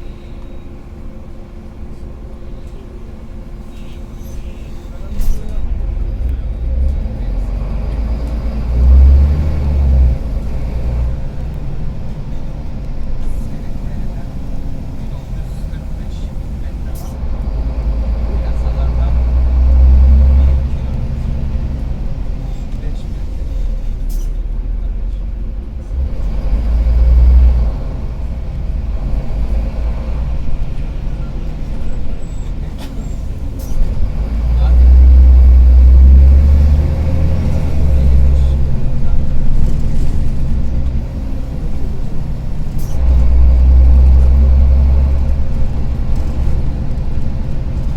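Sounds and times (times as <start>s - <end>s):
bus engine rattly rumble: 0.0s - 47.9s.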